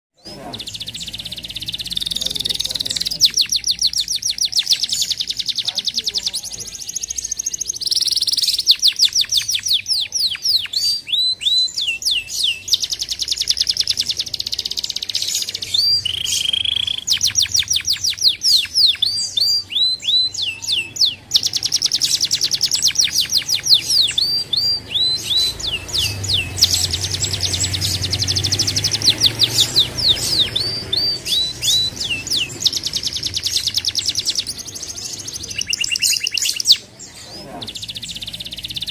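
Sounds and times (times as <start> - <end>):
canary singing trills: 0.2 - 38.9.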